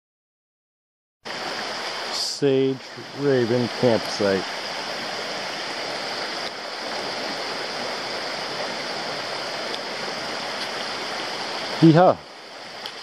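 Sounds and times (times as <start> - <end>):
water rushing over stones: 1.3 - 13.0.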